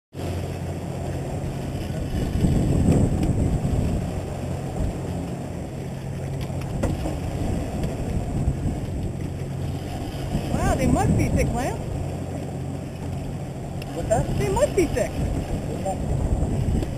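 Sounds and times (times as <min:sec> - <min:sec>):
boat engine droning: 0:00.1 - 0:16.9
water rushing along hull: 0:00.1 - 0:16.9
wind on microphone: 0:00.2 - 0:16.9.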